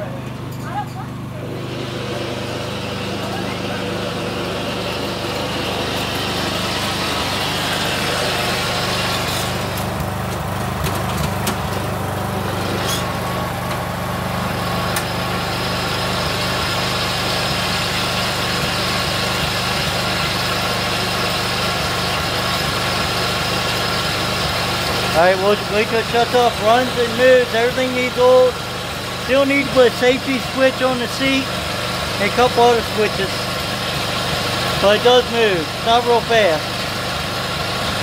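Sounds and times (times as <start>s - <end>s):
small go-kart engine running: 0.0s - 38.0s.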